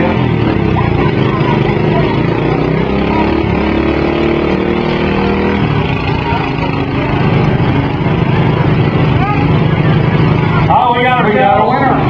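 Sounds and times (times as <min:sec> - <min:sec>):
lawn mower engines revving: 0:00.0 - 0:12.0.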